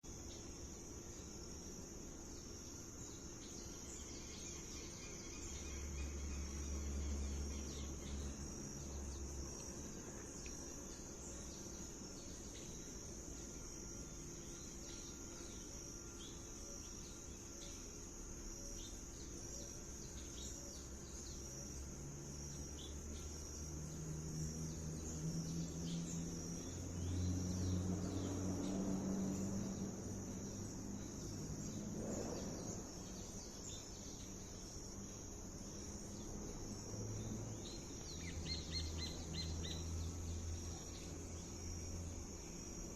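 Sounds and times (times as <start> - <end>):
insect trill: 0.0 - 42.9.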